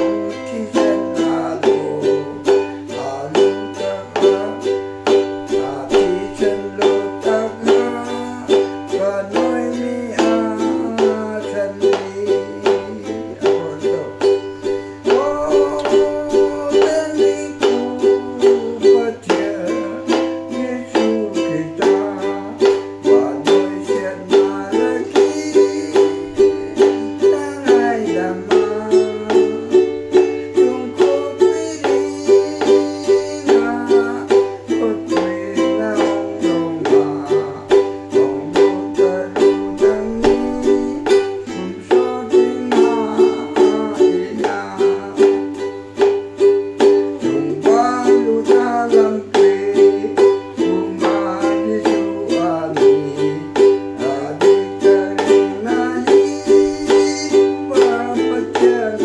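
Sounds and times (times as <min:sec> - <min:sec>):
man singing: 0:00.0 - 0:59.0
ukulele strumming: 0:00.0 - 0:59.0.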